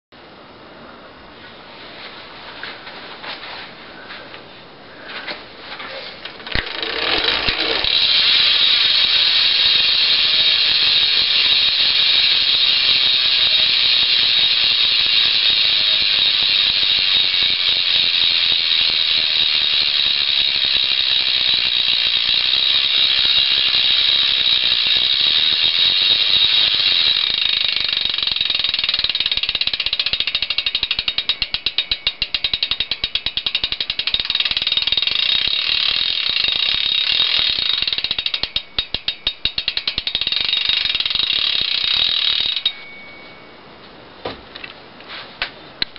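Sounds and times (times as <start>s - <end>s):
bike hub ratchet buzzing: 6.2s - 43.0s.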